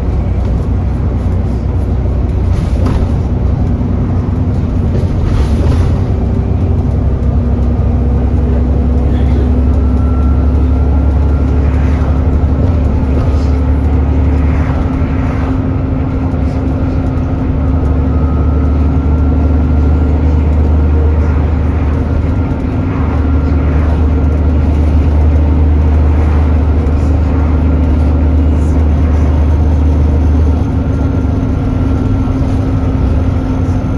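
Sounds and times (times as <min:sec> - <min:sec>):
bus engine drone: 0:00.0 - 0:33.9
steady whine: 0:00.0 - 0:33.9.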